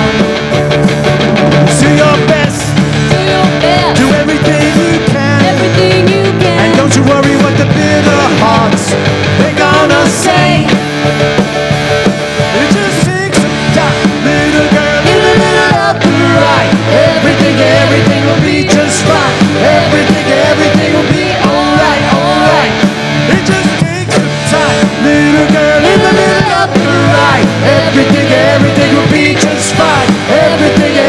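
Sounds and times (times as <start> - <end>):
country-rock band playing: 0.0 - 31.0
person singing lead vocal: 1.6 - 10.8, 12.5 - 31.0.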